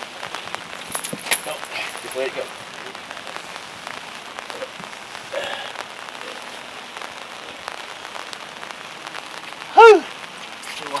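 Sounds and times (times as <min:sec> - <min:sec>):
rain pattering on canvas: 0:00.0 - 0:11.0.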